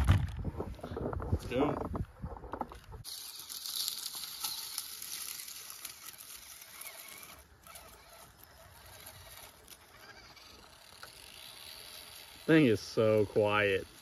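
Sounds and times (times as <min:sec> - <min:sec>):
toy car rolling over dry leaves: 0:02.5 - 0:14.0.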